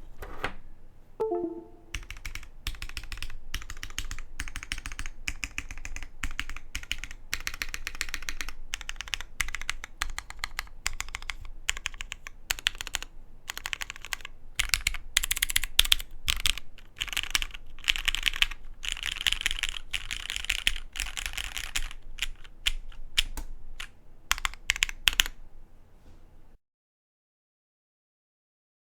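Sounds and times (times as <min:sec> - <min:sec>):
mechanical keyboard typing: 0:01.3 - 0:25.4.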